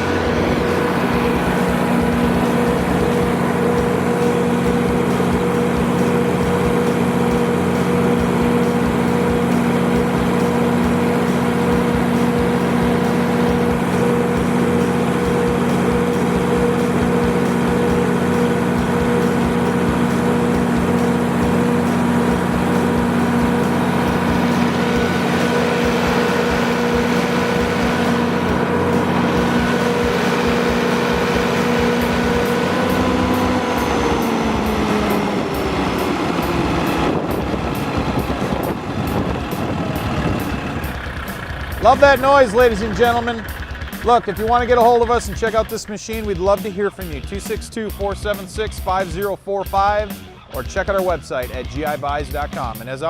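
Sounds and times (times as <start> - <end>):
diesel generator running: 0.0 - 53.0.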